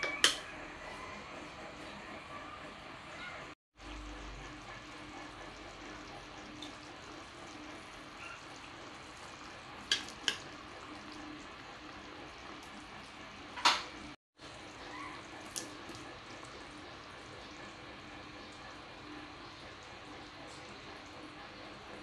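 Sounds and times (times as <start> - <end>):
sauce simmering with bubbling hiss: 3.8 - 22.0.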